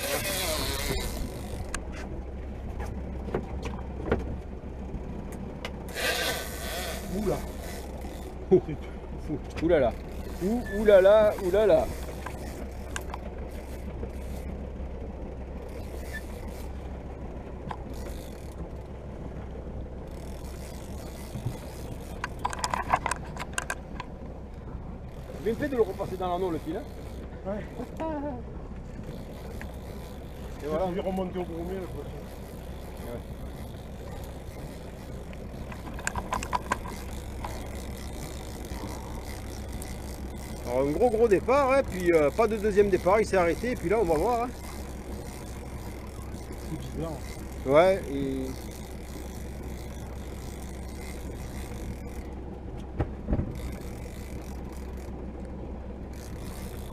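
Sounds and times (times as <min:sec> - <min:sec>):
fishing reel ratcheting: 0:00.0 - 0:01.9, 0:05.8 - 0:08.5, 0:09.5 - 0:17.0, 0:17.6 - 0:19.0, 0:20.0 - 0:24.2, 0:25.0 - 0:28.1, 0:28.9 - 0:52.5, 0:53.5 - 0:56.9
boat engine rumble: 0:00.0 - 0:56.9
low steady hum: 0:00.0 - 0:56.9.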